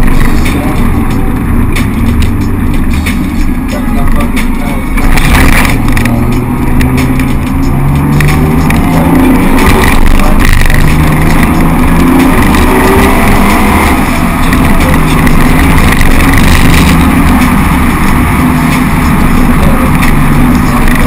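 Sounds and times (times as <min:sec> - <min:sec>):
car engine revving: 0:00.0 - 0:21.0
road and wind noise: 0:00.0 - 0:21.0.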